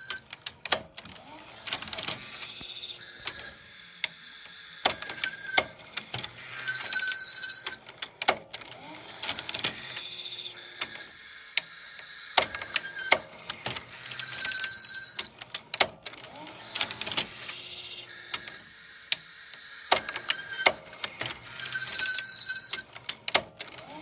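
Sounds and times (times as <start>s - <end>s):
tape mechanism clicking and clunking: 0.0s - 4.2s, 4.8s - 10.0s, 12.4s - 24.0s.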